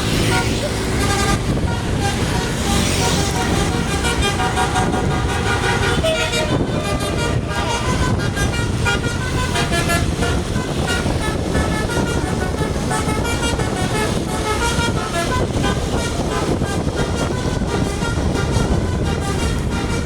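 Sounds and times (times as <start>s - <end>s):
bus engine and road noise: 0.0s - 20.0s
bus horn playing quick notes: 0.1s - 20.0s.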